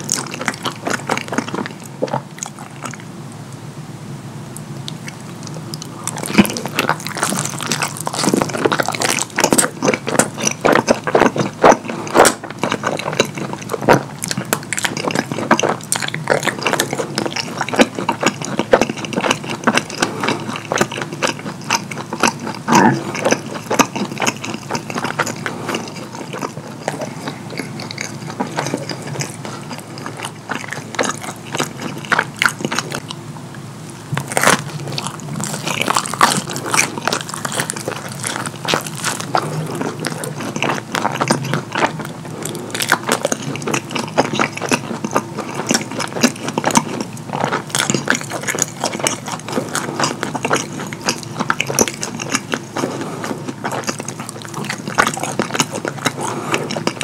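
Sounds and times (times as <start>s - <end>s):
person chewing food: 0.0s - 3.6s, 4.5s - 57.0s
crunchy bites: 4.6s - 33.2s, 34.0s - 57.0s.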